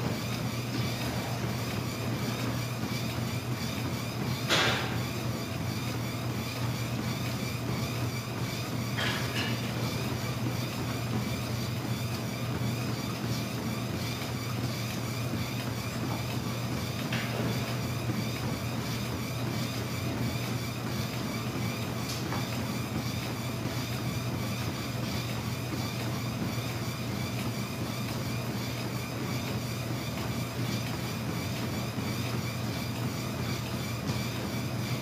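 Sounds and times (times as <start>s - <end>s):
footfalls on treadmill: 0.0s - 35.0s
treadmill motor and belt hum: 0.0s - 35.0s.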